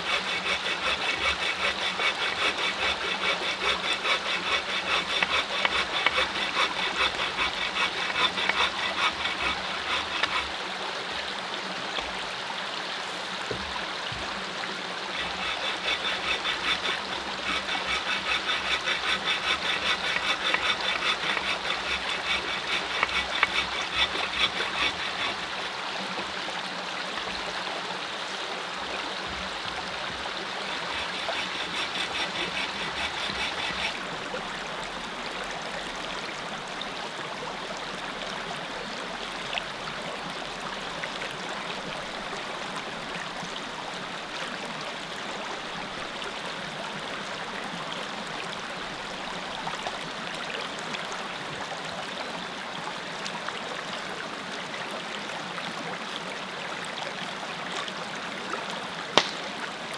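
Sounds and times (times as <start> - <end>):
creek running over rocks: 0.0 - 59.9.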